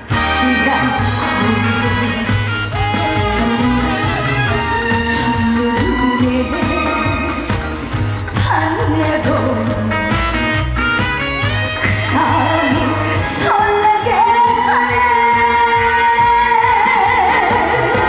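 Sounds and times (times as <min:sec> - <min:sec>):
woman singing pop song: 0:00.0 - 0:11.0, 0:11.6 - 0:18.0
band accompaniment: 0:00.0 - 0:18.0.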